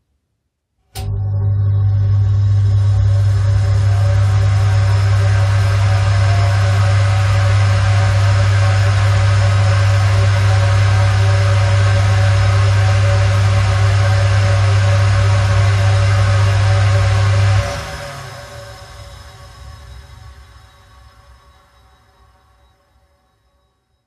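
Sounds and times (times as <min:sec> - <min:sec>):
ventilation fan humming: 0:01.9 - 0:21.5.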